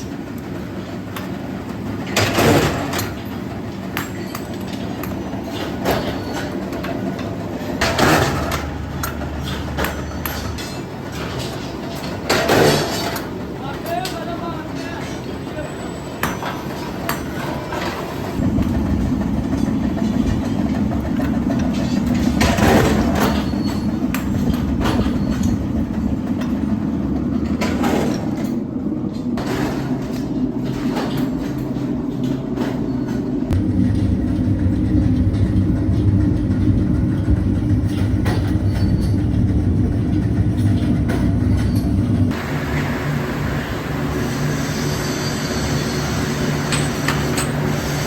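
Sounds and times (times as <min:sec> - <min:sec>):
heavy factory machinery running: 0:00.0 - 0:48.0.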